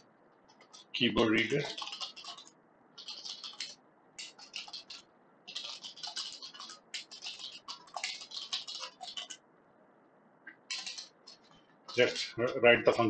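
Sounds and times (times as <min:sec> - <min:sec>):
computer keyboard typing: 0:00.0 - 0:09.4, 0:10.5 - 0:12.4.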